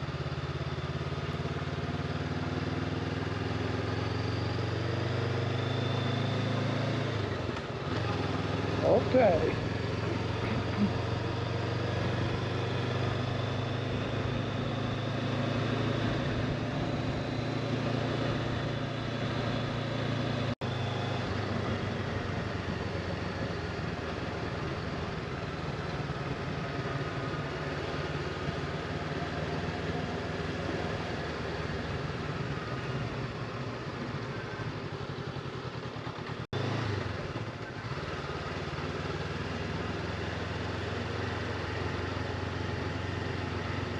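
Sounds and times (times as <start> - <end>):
motorcycle engine running: 0.0 - 43.9
wind and road noise: 0.0 - 43.9.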